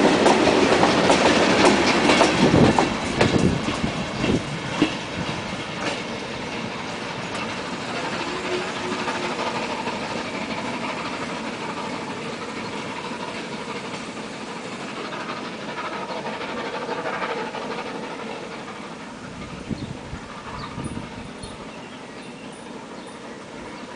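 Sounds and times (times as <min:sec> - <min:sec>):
steam train exhaust and running: 0:00.0 - 0:23.9.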